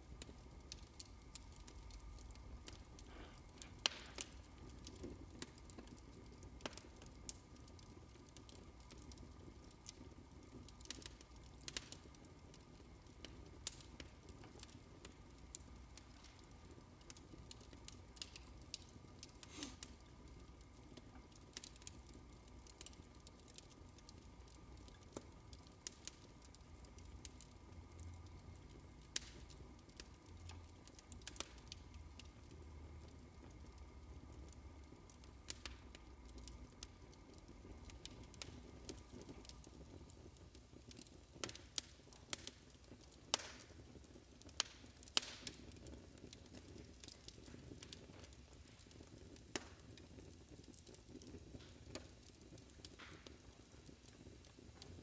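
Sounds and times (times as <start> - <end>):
fireplace crackling: 0.0 - 55.0.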